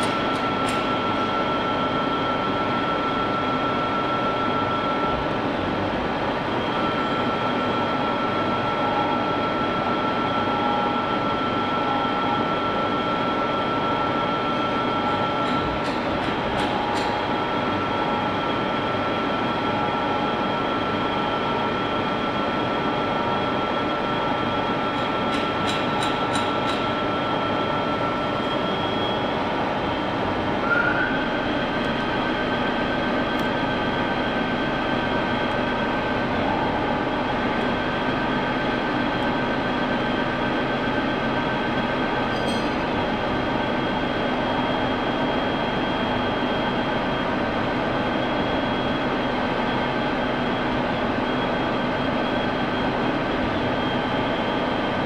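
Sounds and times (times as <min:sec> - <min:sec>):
lathe running with high whine: 0:00.0 - 0:55.0.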